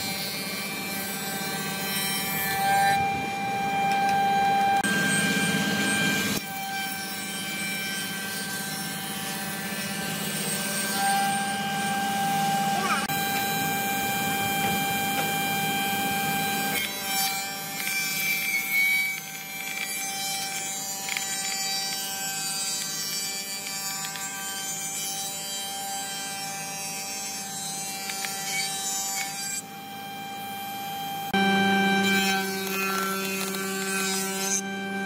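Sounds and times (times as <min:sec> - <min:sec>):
power tool cutting wood: 0:00.0 - 0:35.0.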